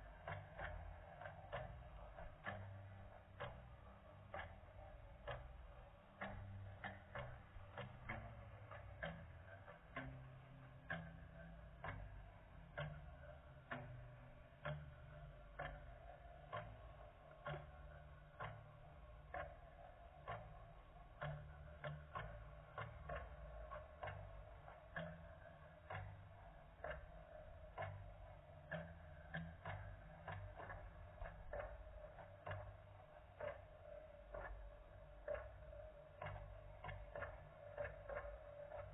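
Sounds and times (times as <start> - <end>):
low hum: 0.0 - 38.9
regular ticking clicks: 0.0 - 38.9.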